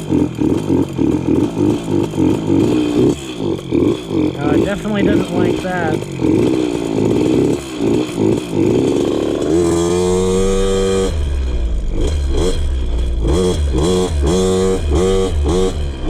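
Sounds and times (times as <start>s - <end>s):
dirt bike engine running rough: 0.0s - 16.0s.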